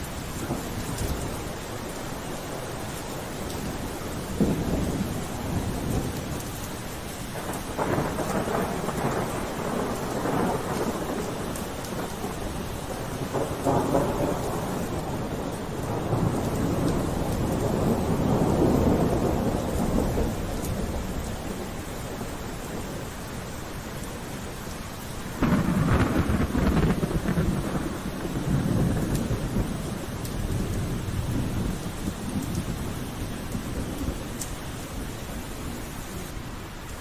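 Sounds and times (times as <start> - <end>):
steady rain: 0.0 - 37.0
thunder rumbles: 0.2 - 36.0.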